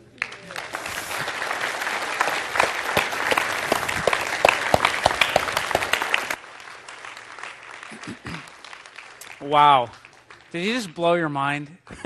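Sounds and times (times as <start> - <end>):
crowd applauding: 0.0 - 10.9.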